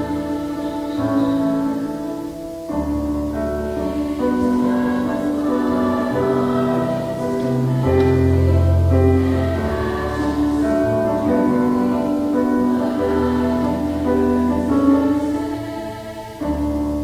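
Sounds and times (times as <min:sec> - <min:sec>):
choir singing: 0:00.0 - 0:17.0
string ensemble: 0:00.0 - 0:17.0.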